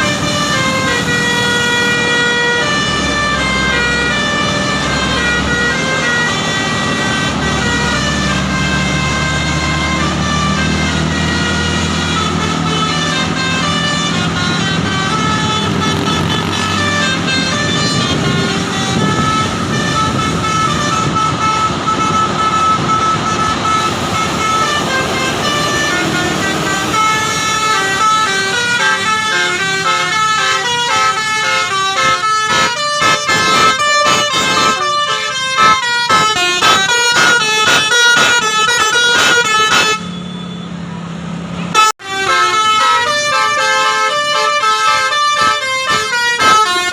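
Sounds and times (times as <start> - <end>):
multi-tone bus horn melody: 0.0 - 41.0, 41.6 - 46.9.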